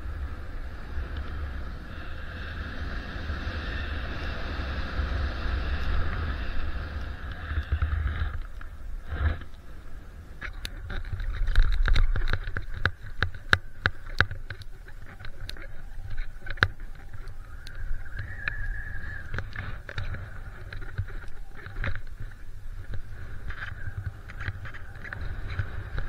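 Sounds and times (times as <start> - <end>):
skis clicking and scraping on snow: 0.0 - 26.0
wind rumbling on microphone: 0.0 - 26.0.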